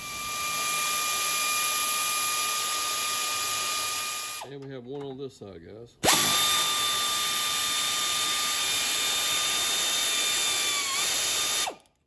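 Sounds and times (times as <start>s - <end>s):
air ratchet whining: 0.0s - 4.6s, 6.0s - 12.0s.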